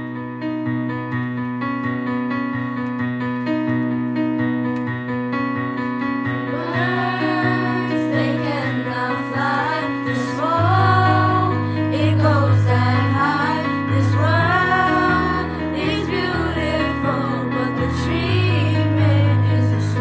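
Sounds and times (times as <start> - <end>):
keyboard playing chords: 0.0 - 20.0.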